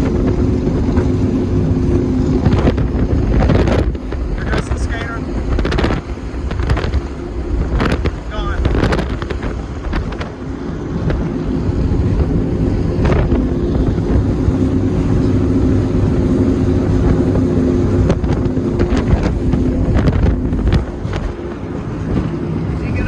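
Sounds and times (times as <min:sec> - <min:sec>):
powerboat engines rumbling: 0:00.0 - 0:23.0
wind buffeting microphone: 0:00.0 - 0:23.0.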